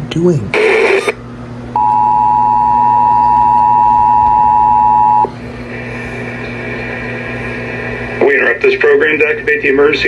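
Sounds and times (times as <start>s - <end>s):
loud steady dual tone: 0.5s - 10.0s.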